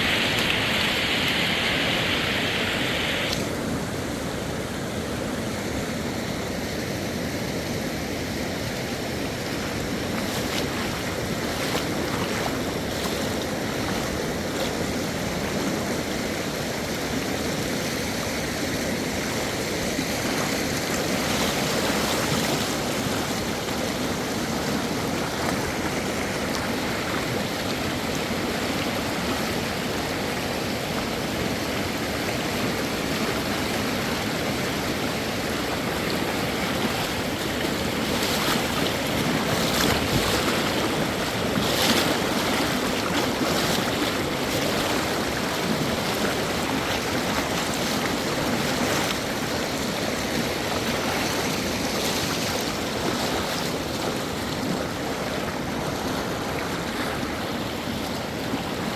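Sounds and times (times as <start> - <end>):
river rushing: 0.0 - 58.9.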